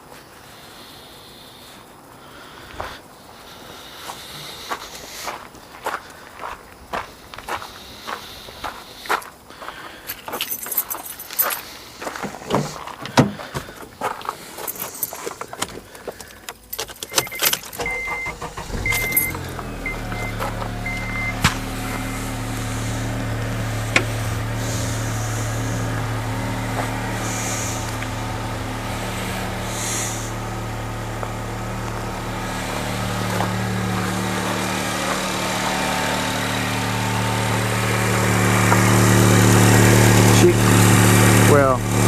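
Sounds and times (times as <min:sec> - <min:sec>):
car engine idling: 0:02.1 - 0:42.0.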